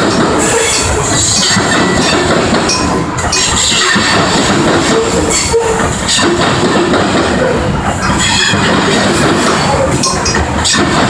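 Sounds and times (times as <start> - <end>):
train wheels rumbling: 0.0 - 11.0
wheels clacking over rail joints: 0.0 - 11.0.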